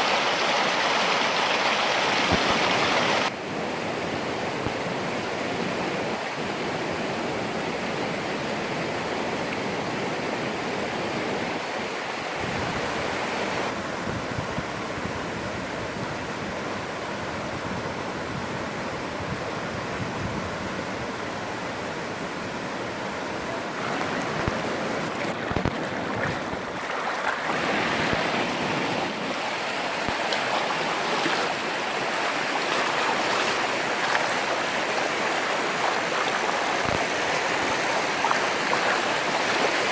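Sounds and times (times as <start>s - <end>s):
stream rushing over rocks: 0.0s - 13.9s, 21.5s - 39.9s.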